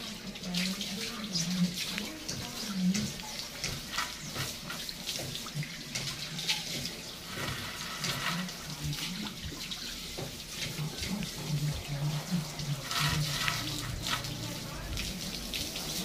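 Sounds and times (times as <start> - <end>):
hose water splashing: 0.0 - 16.0.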